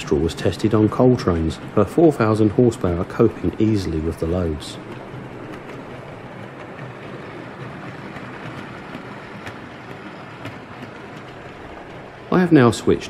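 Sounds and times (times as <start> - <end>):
train rolling past: 0.0 - 13.0.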